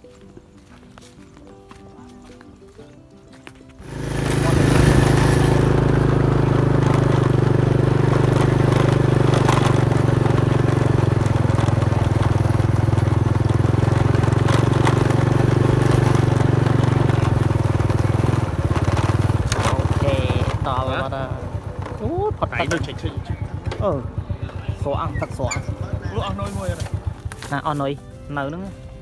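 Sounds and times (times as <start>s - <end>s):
motorcycle engine running: 3.8s - 29.0s.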